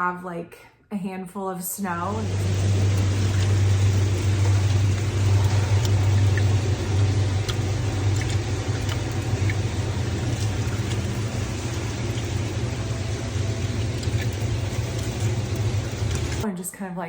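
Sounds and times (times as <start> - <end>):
low mechanical rumble: 1.9 - 16.4.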